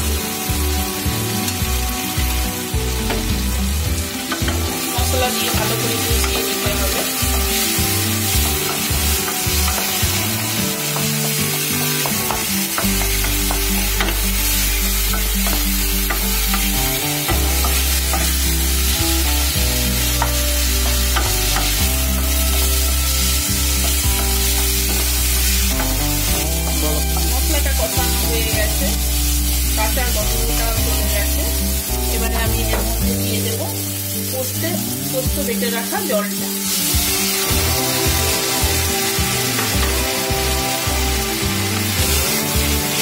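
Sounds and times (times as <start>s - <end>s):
background music with bass: 0.0s - 43.0s
food sizzling in a pan: 0.0s - 43.0s.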